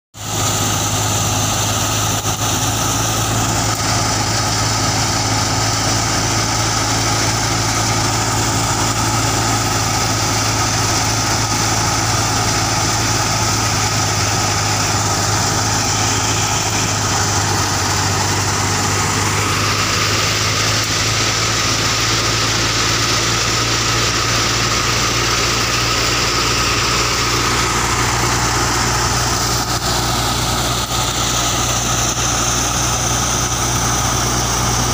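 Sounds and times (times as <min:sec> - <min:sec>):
low engine hum: 0:00.2 - 0:34.9
thresher drum rushing hiss: 0:00.2 - 0:34.9.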